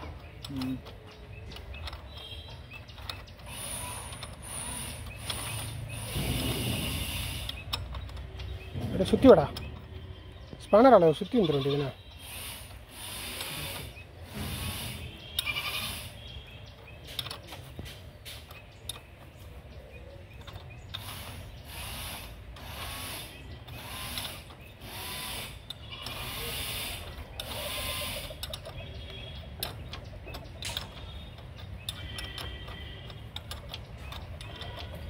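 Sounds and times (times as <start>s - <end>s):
ratchet spanner clicking: 0.2s - 9.8s, 12.2s - 16.2s, 20.4s - 35.0s.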